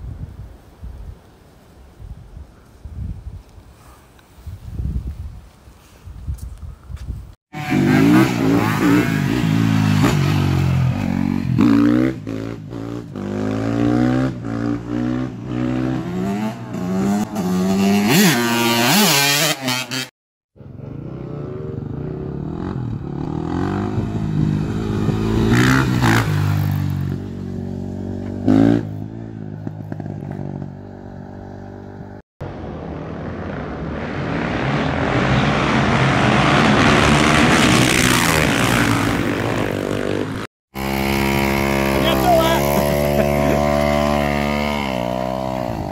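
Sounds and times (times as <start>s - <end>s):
motorcycle engine revving: 7.6s - 32.2s, 32.8s - 45.9s
motorcycle approaching: 7.6s - 45.9s.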